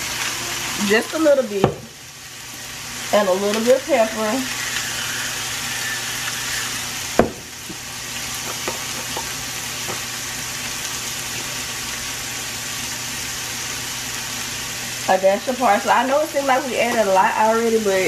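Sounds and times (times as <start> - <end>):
meat sizzling in a pan: 0.0 - 18.0.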